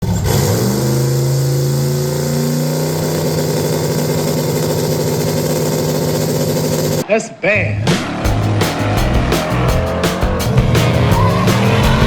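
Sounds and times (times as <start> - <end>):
vehicle engine running: 0.0 - 7.0, 7.9 - 12.0.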